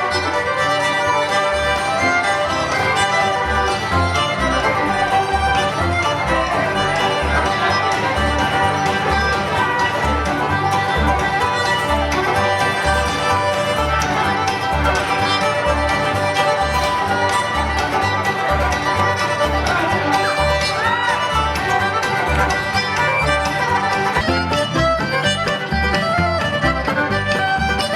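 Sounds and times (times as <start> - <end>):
banjo: 0.0 - 27.9
bass notes: 0.0 - 27.9
fiddle playing tune: 0.0 - 27.9
guitar: 0.0 - 27.9.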